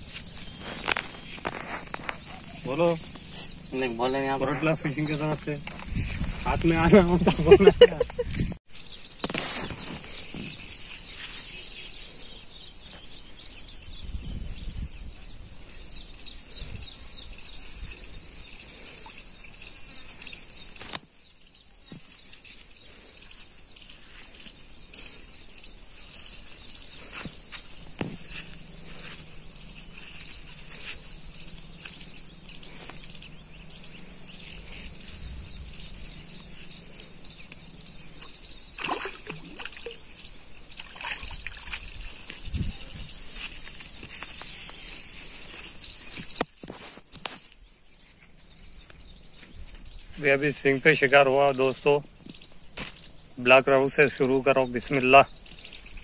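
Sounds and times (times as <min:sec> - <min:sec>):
birds chirping: 0:00.0 - 0:56.0
insects buzzing: 0:00.0 - 0:56.0.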